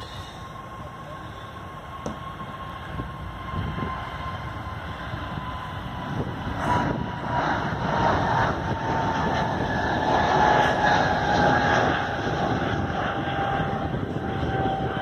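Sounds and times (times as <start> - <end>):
jet engine roar: 0.0 - 15.0
steady engine whine: 0.0 - 15.0.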